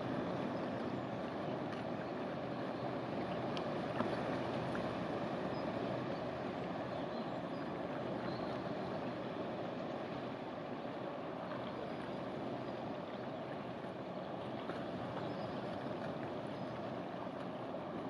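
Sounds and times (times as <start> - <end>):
boat engine: 0.0 - 18.0
water rushing along hull: 0.0 - 18.0.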